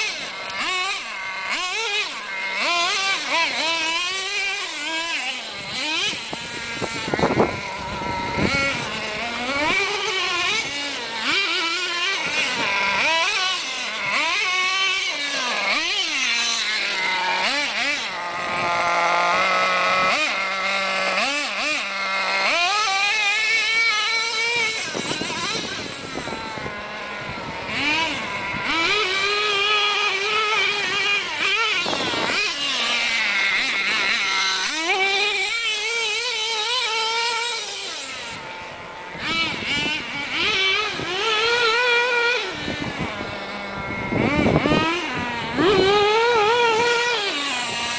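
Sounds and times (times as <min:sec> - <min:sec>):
small engine revving high-pitched: 0:00.0 - 0:47.9.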